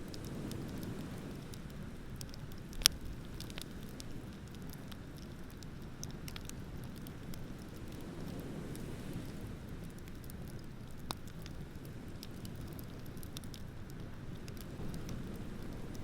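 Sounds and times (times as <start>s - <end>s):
bonfire crackling and popping: 0.0s - 16.0s
ocean surf rumble: 0.0s - 16.0s.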